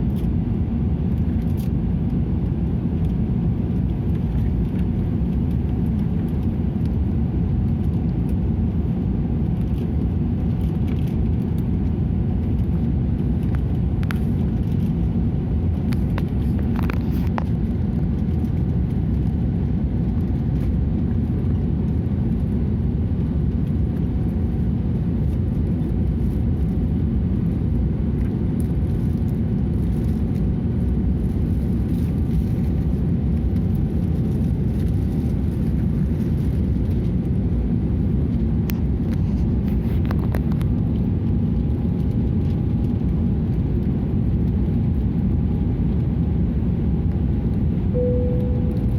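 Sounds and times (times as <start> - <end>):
vehicle rumble from inside cabin: 0.0 - 48.9.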